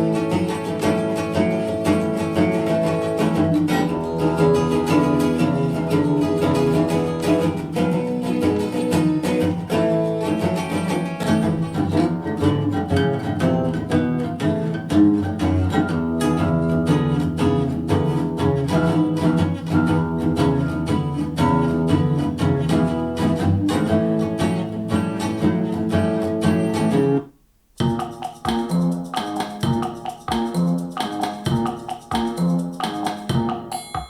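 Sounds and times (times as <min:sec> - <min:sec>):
plucked guitar music: 0:00.0 - 0:34.0.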